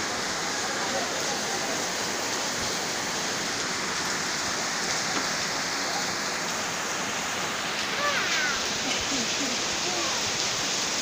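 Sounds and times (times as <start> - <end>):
heavy rain on pavement: 0.0 - 11.0
water running off rooftops: 0.0 - 11.0.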